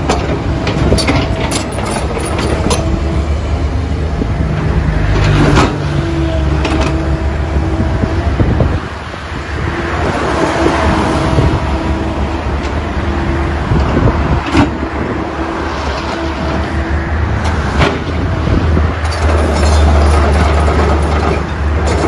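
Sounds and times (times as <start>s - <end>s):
digging machine diesel engine: 0.0s - 22.0s.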